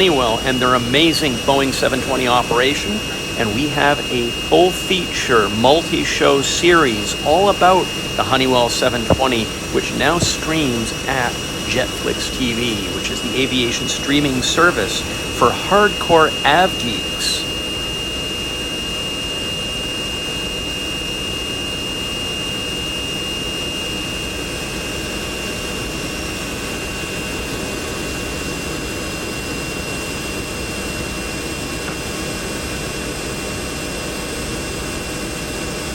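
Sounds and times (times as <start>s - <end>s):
high engine whine: 0.0s - 35.9s
jet engines droning: 0.0s - 35.9s.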